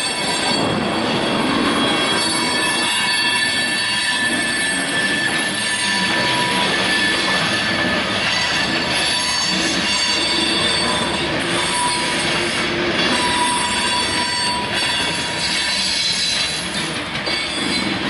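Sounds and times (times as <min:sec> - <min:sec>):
high wheel squealing: 0:00.0 - 0:18.0
train wheels on rails: 0:00.0 - 0:18.0.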